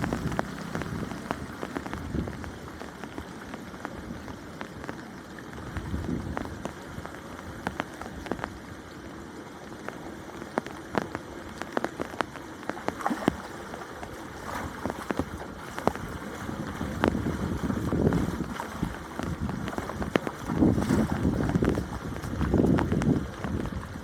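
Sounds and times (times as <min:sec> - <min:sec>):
low wash of water: 0:00.0 - 0:24.0
water dripping and splashing: 0:00.0 - 0:24.0.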